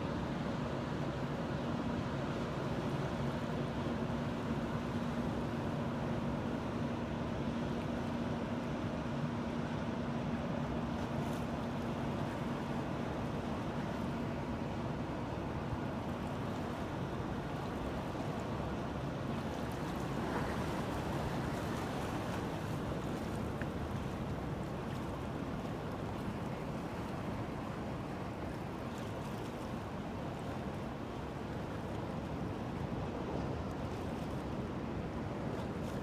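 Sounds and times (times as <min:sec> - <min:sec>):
waves washing: 0:00.0 - 0:36.0.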